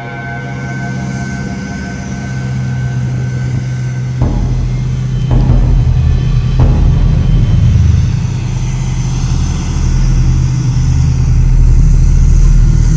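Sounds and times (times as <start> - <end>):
excavator diesel engine rumbling: 0.0 - 12.9.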